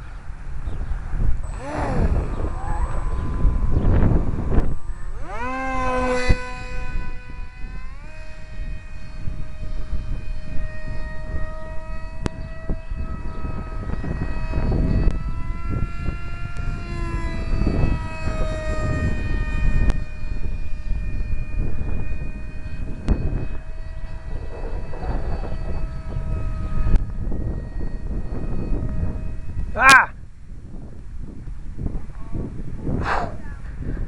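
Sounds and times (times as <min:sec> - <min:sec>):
electric motor propeller whine: 0:00.0 - 0:34.0
wind rumble on microphone: 0:00.0 - 0:34.0.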